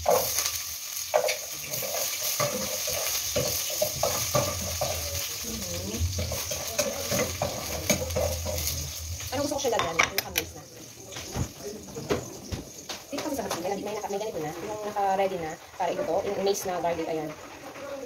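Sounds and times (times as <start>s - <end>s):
garlic sizzling in oil: 0.0s - 17.4s.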